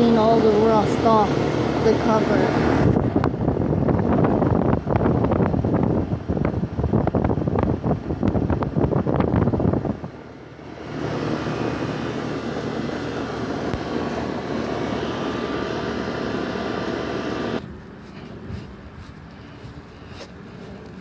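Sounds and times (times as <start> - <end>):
air conditioner fan whirring: 0.0 - 21.0.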